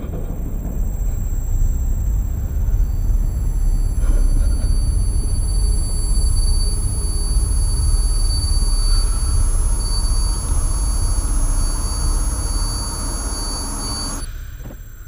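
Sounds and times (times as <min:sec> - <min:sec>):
dense low rumble: 0:00.0 - 0:14.8
high-pitched ringing tones: 0:00.0 - 0:15.0.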